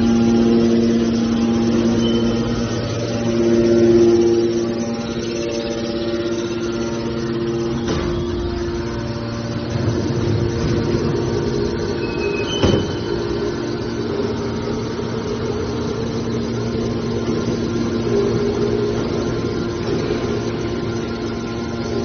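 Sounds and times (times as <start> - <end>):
baler motor and hydraulic pump hum: 0.0 - 22.0.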